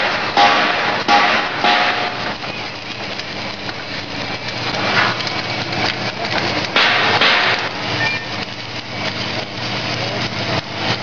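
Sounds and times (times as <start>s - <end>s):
low machine hum: 0.0s - 11.0s
welding crackling hiss: 0.0s - 11.0s.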